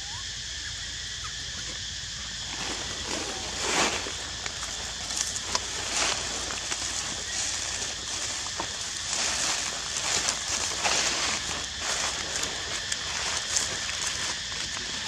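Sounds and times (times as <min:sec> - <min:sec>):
footsteps on dry leaves: 0:02.3 - 0:15.0.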